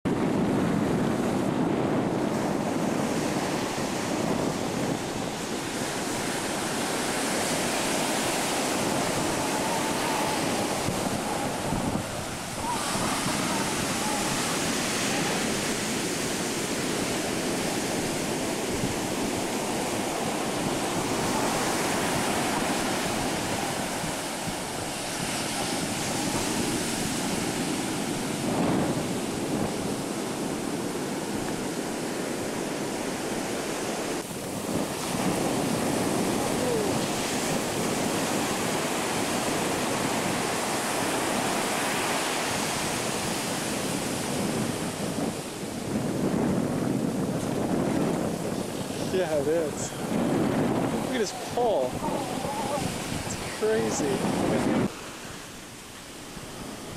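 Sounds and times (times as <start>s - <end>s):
wind buffeting microphone: 0.0s - 56.9s
ocean surf washing ashore: 0.1s - 56.9s.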